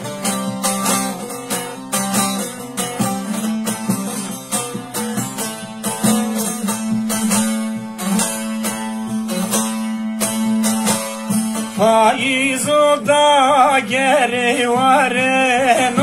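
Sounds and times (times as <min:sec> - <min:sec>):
long-necked lute melody: 0:00.0 - 0:16.0.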